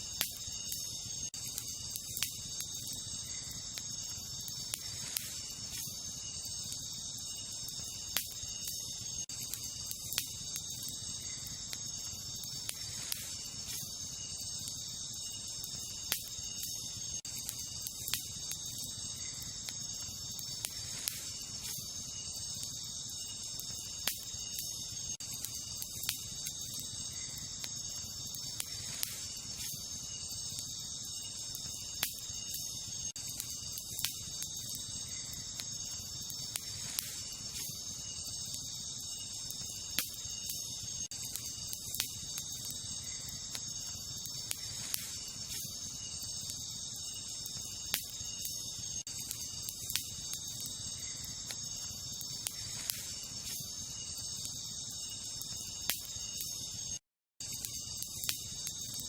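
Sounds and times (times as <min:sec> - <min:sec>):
campfire crackling and popping: 0:00.0 - 0:59.0
night insects chirping: 0:00.0 - 0:59.0.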